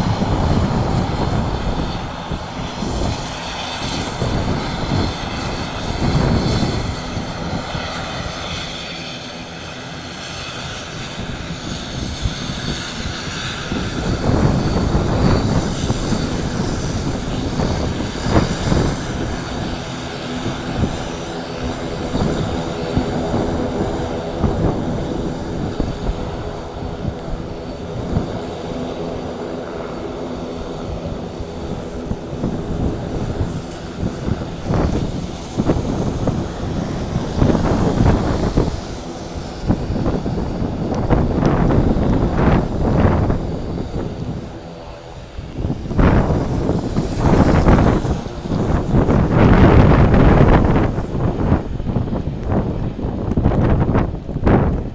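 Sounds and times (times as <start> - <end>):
turboprop engines running: 0.0 - 54.9
wind buffeting microphone: 0.0 - 54.9.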